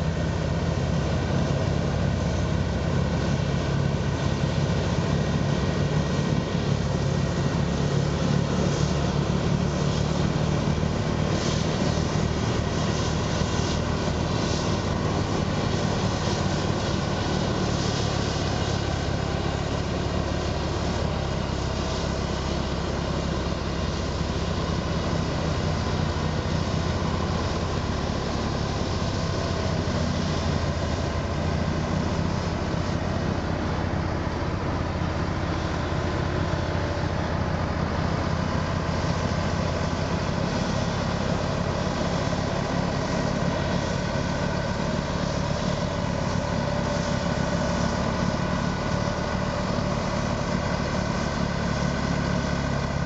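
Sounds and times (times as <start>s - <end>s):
diesel engines droning: 0.0s - 53.0s
rushing hiss of blown snow: 0.0s - 53.0s.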